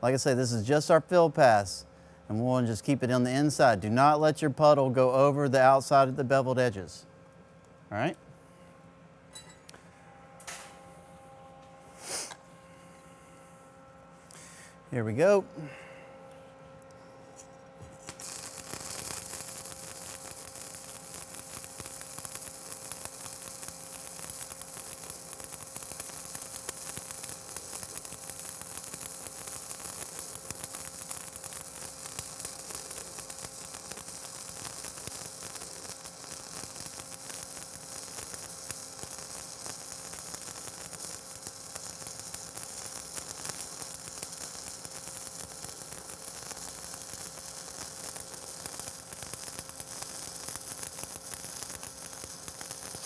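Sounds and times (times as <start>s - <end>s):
welding arc sizzling: 0.0s - 7.0s, 9.4s - 53.0s.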